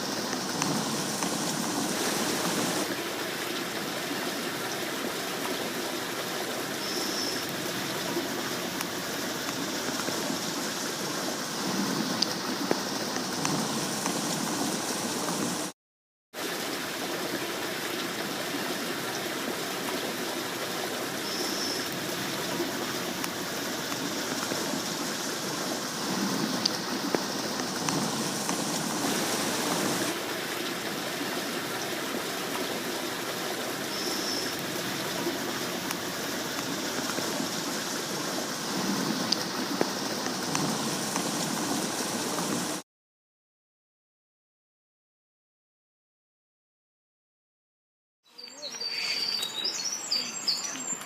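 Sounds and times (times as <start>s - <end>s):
stream water rushing: 0.0s - 15.7s, 16.4s - 42.8s.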